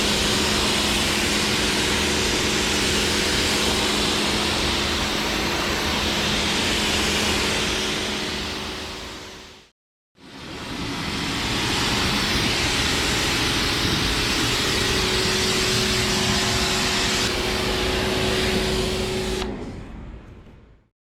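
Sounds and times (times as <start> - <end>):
machine hissing and humming: 0.0 - 9.6, 10.2 - 19.8.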